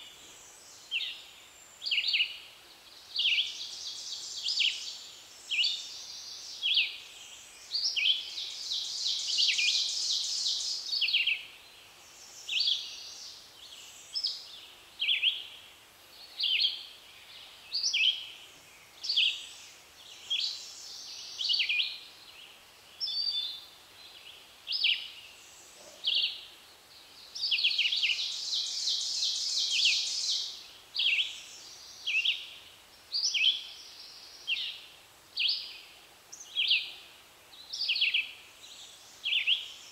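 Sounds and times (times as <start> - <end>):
songbird songs: 0.0 - 39.9
songbirds chirping: 0.0 - 39.9.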